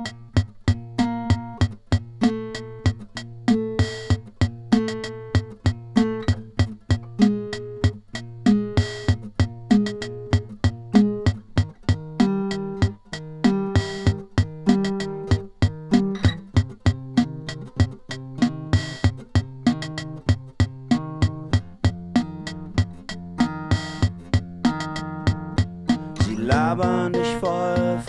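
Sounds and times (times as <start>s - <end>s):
plucked guitar pattern: 0.0s - 28.0s.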